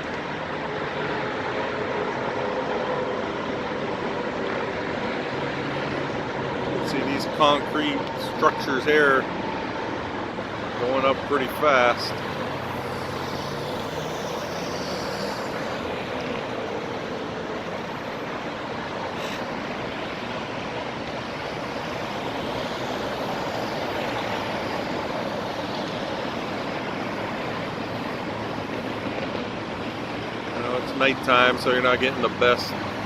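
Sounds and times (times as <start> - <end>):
freeway traffic noise: 0.0 - 33.0
passing vehicle engine hum: 0.0 - 33.0.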